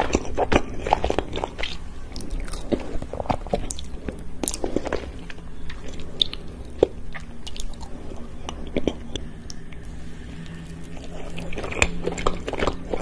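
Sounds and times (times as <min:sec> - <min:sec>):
chewing with wet mouth clicks: 0:00.0 - 0:13.0
crunches of biting dessert: 0:00.0 - 0:13.0.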